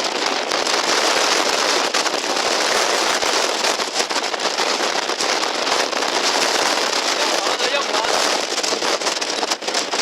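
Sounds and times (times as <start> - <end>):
strong wind battering microphone: 0.0 - 10.0.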